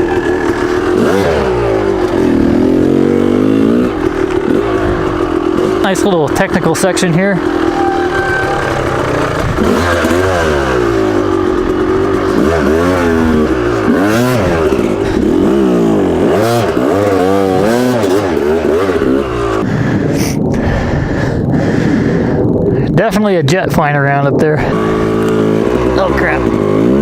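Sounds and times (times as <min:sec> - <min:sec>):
dirt bike engine revving: 0:00.0 - 0:20.0, 0:24.6 - 0:27.0.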